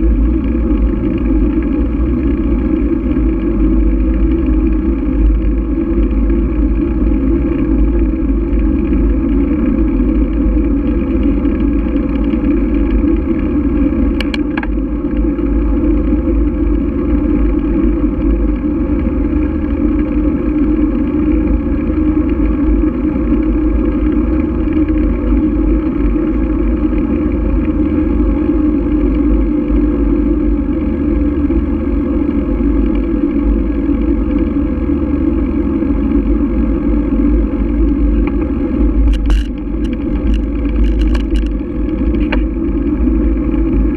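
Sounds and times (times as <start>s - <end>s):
road and wind noise: 0.0s - 43.9s.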